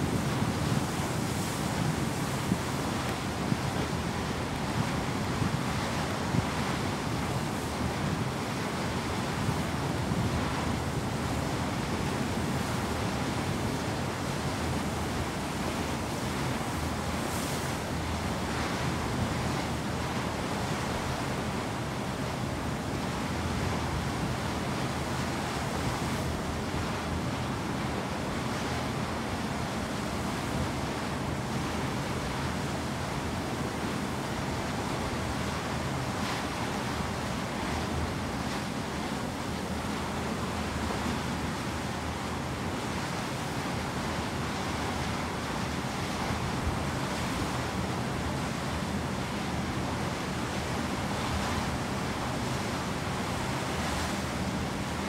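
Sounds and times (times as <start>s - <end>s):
water rushing past hull: 0.0s - 55.0s.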